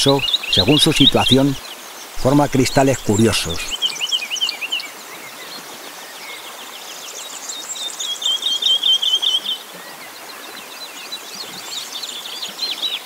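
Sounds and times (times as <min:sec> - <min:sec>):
small birds singing: 0:00.0 - 0:13.0.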